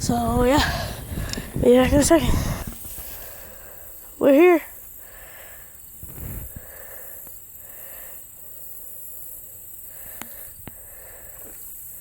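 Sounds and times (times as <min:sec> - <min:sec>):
high-pitched insect drone: 0:00.4 - 0:12.0.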